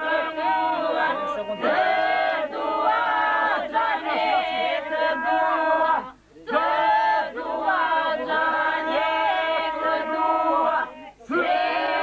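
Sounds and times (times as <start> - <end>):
group of people singing unaccompanied: 0.0 - 12.0.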